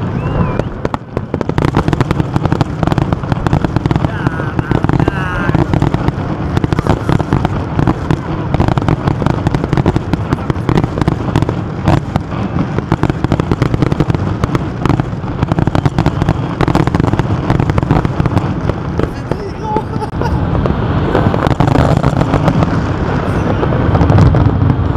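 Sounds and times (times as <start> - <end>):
fireworks bangs and crackling: 0.0 - 24.9
low rumble: 0.0 - 24.9.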